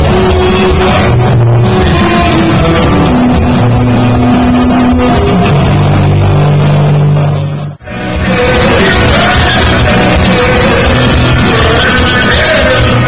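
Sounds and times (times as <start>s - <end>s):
electric guitars: 0.0s - 13.0s
low bass notes: 0.0s - 13.0s
rock band playing: 0.0s - 13.0s.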